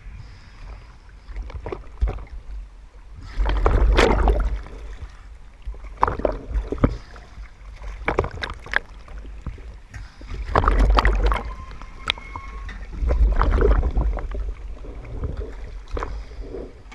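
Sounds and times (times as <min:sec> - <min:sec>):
low rumble of water: 0:00.0 - 0:16.9
sea water sloshing and splashing: 0:00.0 - 0:16.9
water slapping housing: 0:00.6 - 0:16.9.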